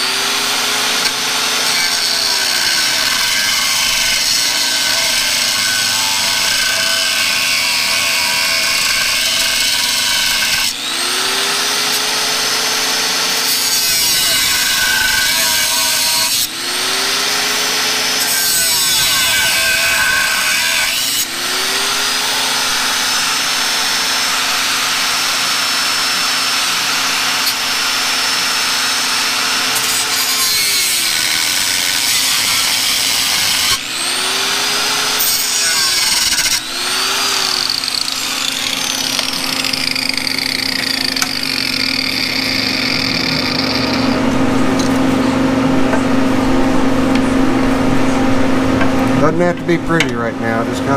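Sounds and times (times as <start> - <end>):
angle grinder cutting steel: 0.0 - 46.0.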